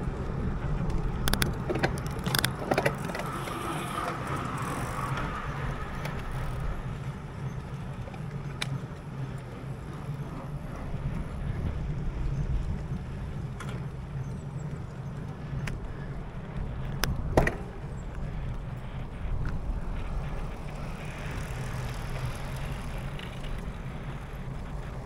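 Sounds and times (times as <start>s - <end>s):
wheels rolling on tarmac: 0.0s - 25.0s.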